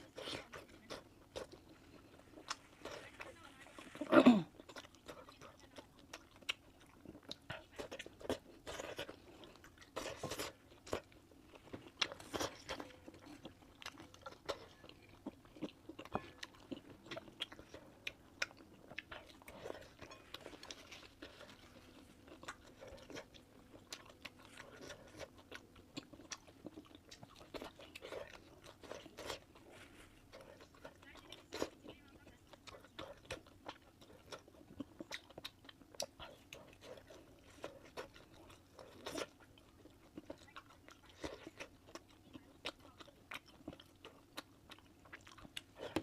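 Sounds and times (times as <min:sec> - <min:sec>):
person chewing crunchy food: 0:00.0 - 0:46.0.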